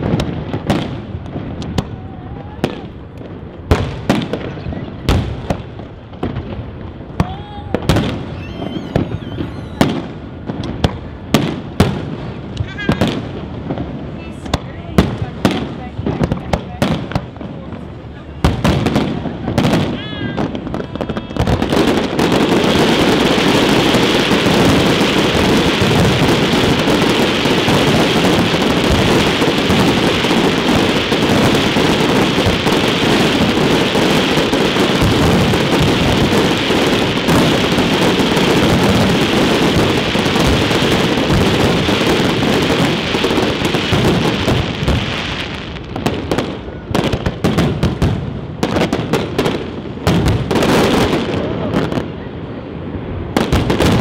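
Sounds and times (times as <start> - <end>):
firework bursts: 0.0 - 54.0
firework crackle: 0.0 - 54.0.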